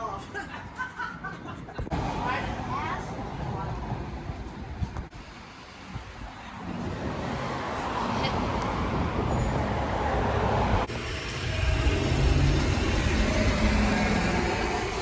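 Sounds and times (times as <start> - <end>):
passing vehicles rushing: 1.9 - 15.0.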